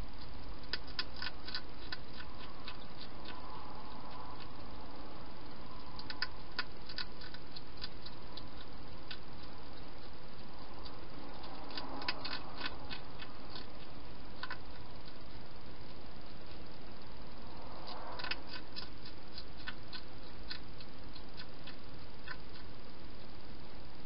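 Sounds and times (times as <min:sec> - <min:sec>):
hedgehog crunching food: 0:00.0 - 0:24.0
steady hiss: 0:00.0 - 0:24.0.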